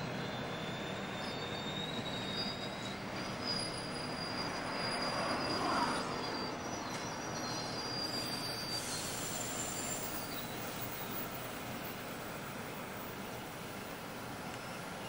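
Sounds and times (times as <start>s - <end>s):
high-pitched wheel squeal: 0.0s - 14.0s
train wheels rumbling on rails: 0.0s - 15.0s.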